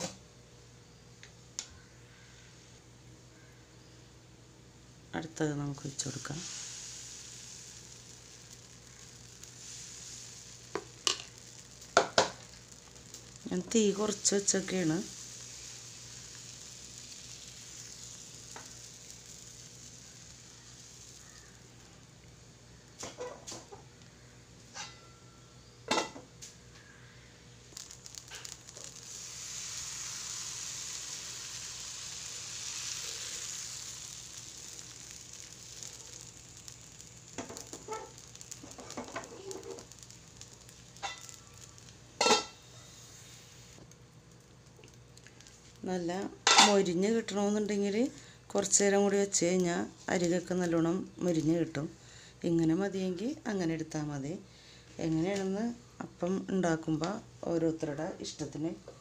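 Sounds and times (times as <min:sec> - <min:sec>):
batter sizzling in a pan: 0:00.0 - 0:04.1, 0:04.7 - 0:59.0.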